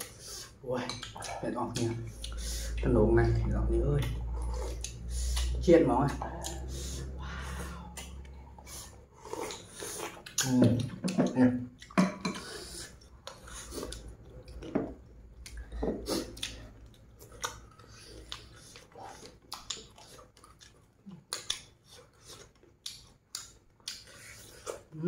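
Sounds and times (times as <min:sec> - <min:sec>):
people chewing and smacking: 0:00.0 - 0:25.0.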